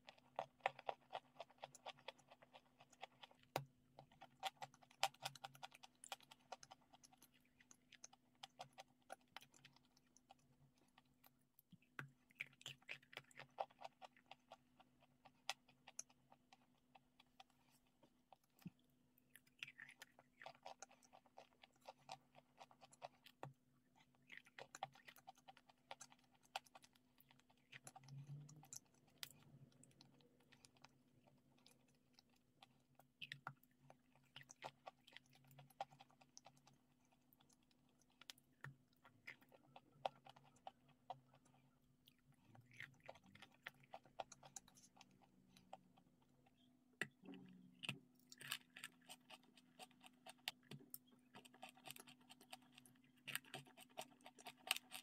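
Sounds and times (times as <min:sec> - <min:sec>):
chewing crunchy clay: 0:00.0 - 0:55.0.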